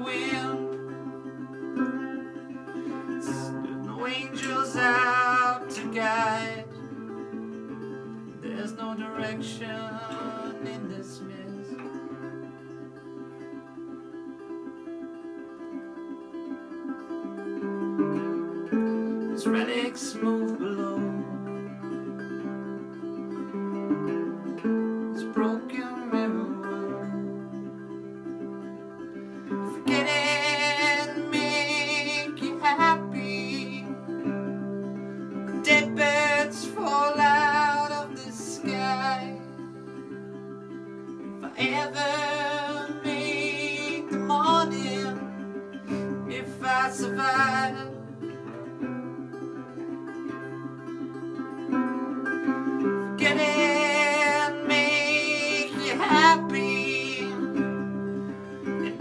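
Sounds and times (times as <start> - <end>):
resonator guitar blues: 0.0 - 59.0.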